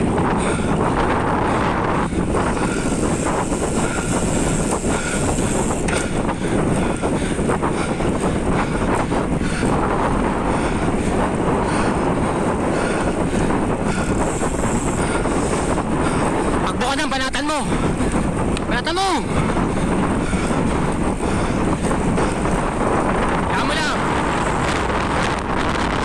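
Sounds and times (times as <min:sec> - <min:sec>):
tyre and road noise: 0:00.0 - 0:26.0
wind rushing over microphone: 0:00.0 - 0:26.0.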